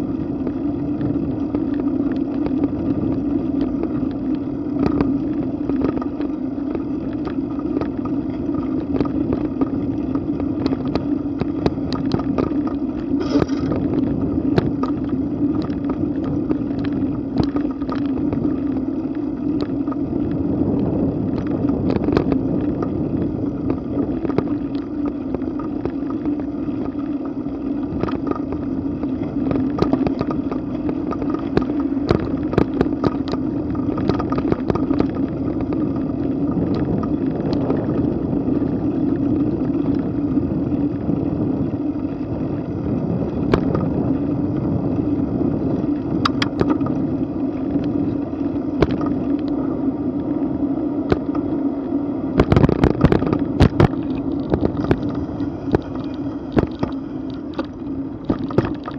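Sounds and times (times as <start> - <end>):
bicycle tyres humming on pavement: 0.0 - 58.9
small clicks and rattles: 0.0 - 58.9
wind on microphone: 0.0 - 58.9.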